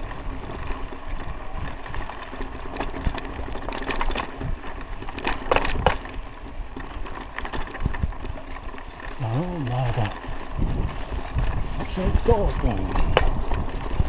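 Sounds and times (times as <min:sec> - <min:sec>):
bike clicks and rattles: 0:00.0 - 0:14.0
bike tyres rolling on dirt: 0:00.0 - 0:14.0.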